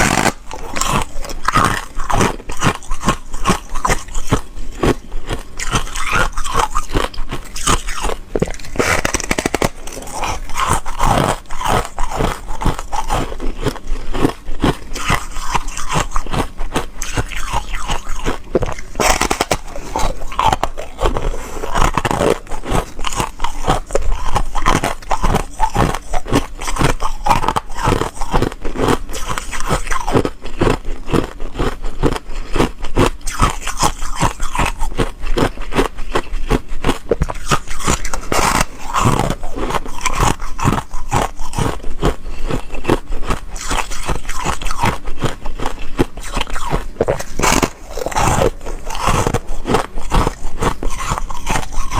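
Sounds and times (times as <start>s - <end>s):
biting and chewing ice: 0.0s - 51.9s.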